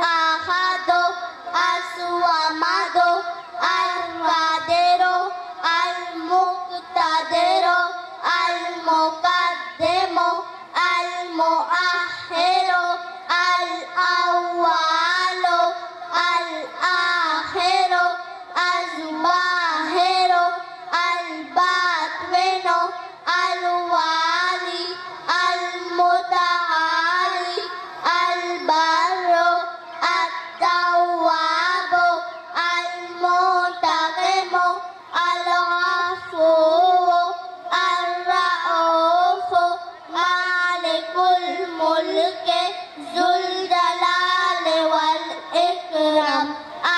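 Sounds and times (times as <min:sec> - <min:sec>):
person singing unaccompanied: 0:00.0 - 0:46.9.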